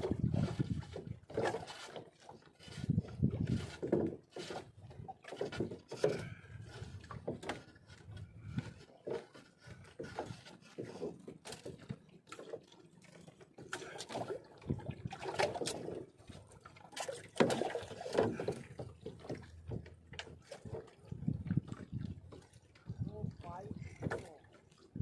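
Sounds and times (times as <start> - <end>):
faint water sounds: 0.0 - 25.0
gear knocking and rustling in a boat: 0.0 - 25.0.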